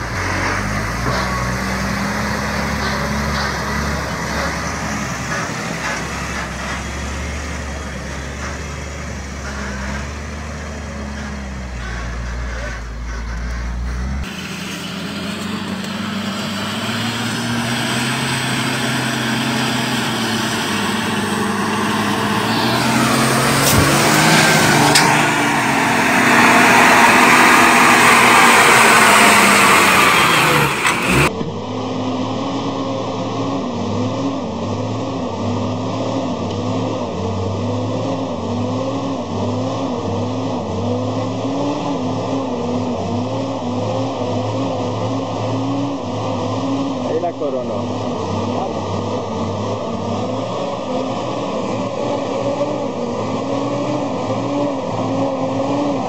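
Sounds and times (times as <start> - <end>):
truck engine passing: 0.0 - 56.0
truck engine throbbing under load: 0.0 - 56.0.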